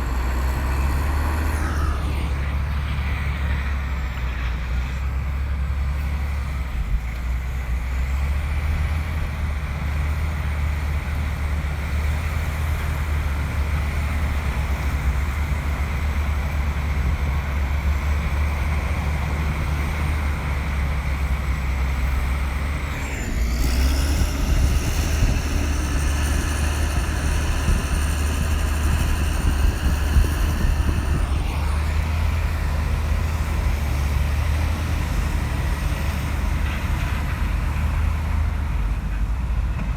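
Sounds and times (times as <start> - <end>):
machinery whine: 0.0 - 8.8, 10.7 - 39.9
bulldozer diesel engine rumbling: 0.0 - 39.9.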